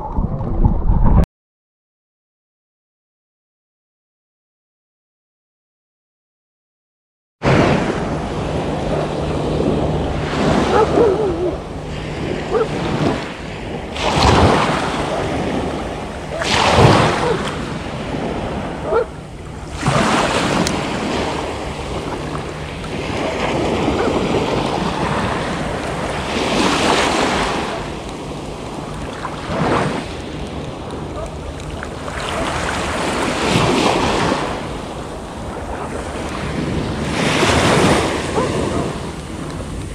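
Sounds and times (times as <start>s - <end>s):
wind rumbling on microphone: 0.0s - 1.3s, 7.4s - 39.9s
waves washing over pebbles: 7.5s - 39.9s.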